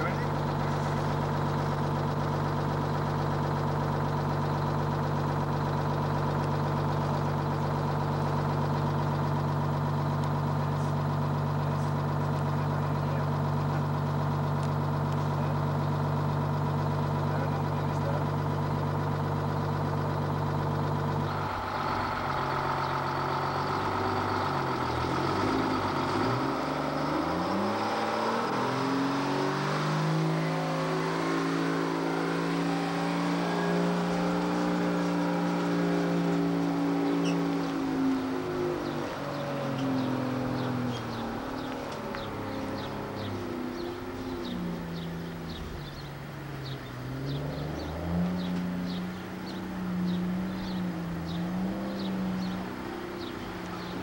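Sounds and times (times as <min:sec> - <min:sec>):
truck engine idling and revving: 0:00.0 - 0:54.0.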